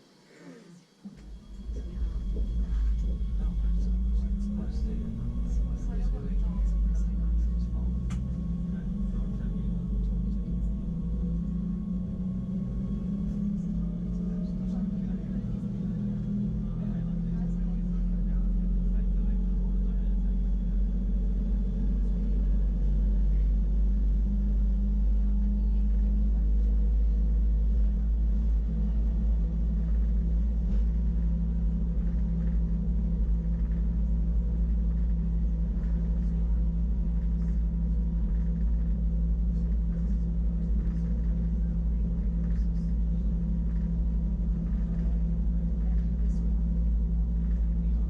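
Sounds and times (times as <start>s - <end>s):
motor hum: 0.0s - 48.0s
train rumble: 1.0s - 48.0s.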